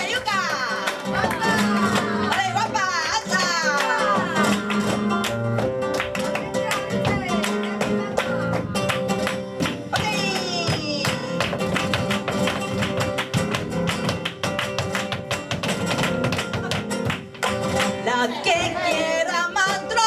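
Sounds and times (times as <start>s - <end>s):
flamenco guitar playing: 0.0s - 20.0s.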